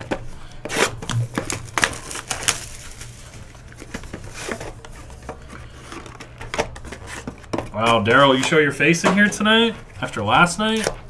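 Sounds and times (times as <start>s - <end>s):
foil packs crinkling: 0.0s - 10.8s.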